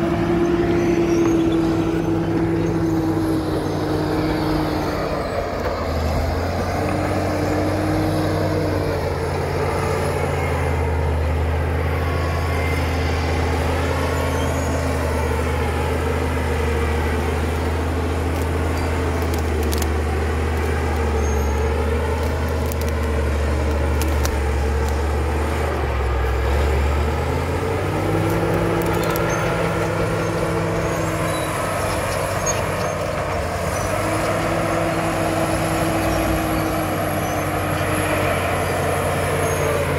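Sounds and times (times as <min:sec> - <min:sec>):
diesel engine lugging under load: 0:00.0 - 0:39.9.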